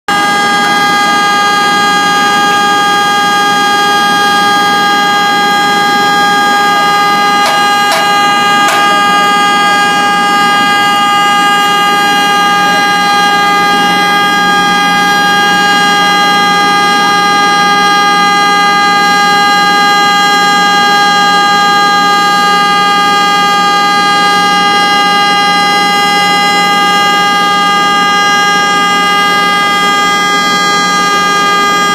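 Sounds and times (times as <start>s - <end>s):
car horn sounding continuously: 0.1s - 31.9s.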